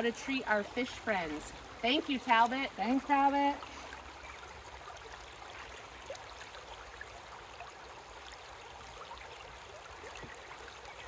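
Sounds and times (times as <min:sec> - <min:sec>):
river running over rocks: 0:00.0 - 0:11.0.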